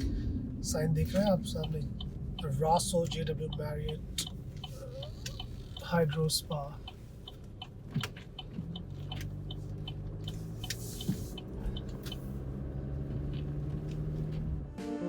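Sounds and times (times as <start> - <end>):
turn signal ticking: 0.0 - 14.6
engine and road rumble: 0.0 - 14.8.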